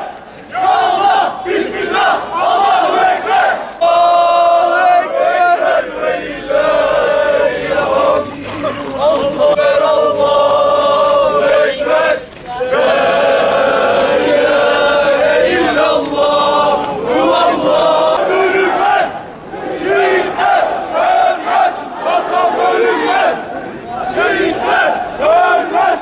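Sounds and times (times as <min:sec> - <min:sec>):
crowd singing in unison: 0:00.0 - 0:26.0.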